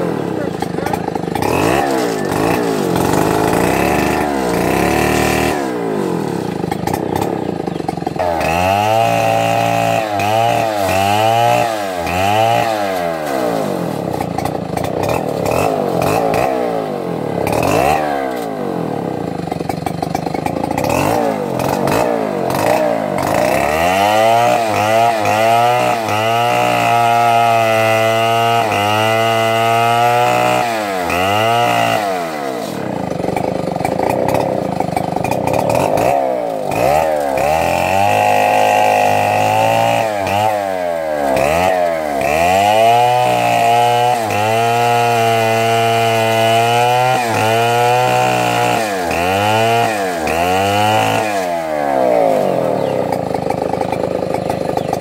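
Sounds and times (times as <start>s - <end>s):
chainsaw revving cutting brush: 0.0s - 55.0s.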